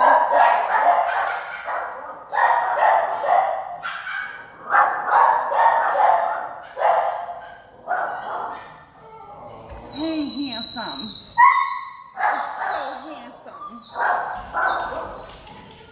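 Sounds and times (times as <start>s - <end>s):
dogs barking: 0.0s - 15.7s.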